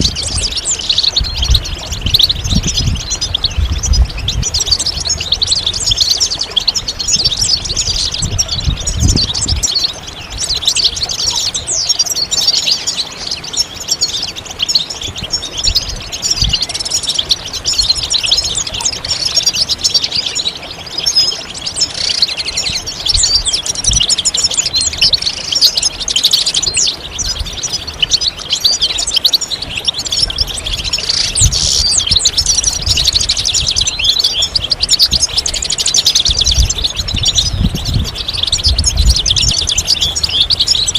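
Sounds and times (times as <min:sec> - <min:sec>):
finch twittering song: 0:00.0 - 0:40.9.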